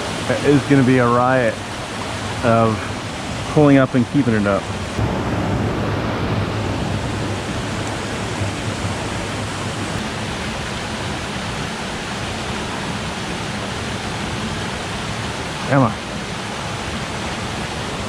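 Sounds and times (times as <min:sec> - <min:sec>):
water pouring over waterfall: 0:00.0 - 0:18.0.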